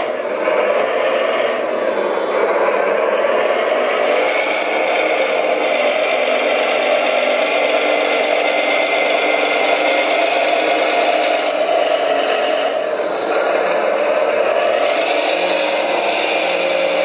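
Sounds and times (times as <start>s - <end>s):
model machine motor whirring and rattling: 0.0s - 17.0s.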